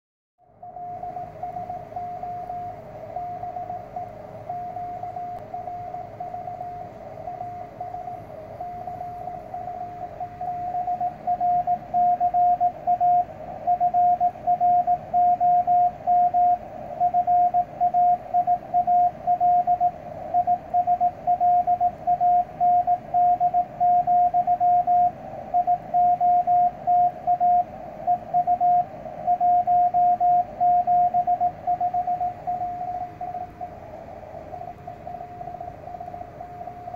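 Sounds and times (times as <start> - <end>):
morse code tone: 0.9 - 33.6.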